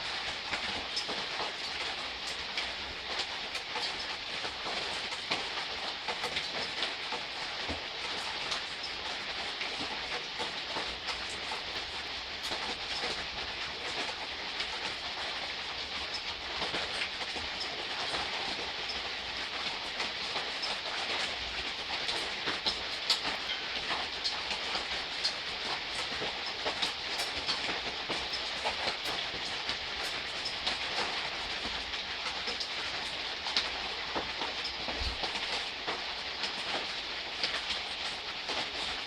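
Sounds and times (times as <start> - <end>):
gentle steady rain: 0.0 - 39.0.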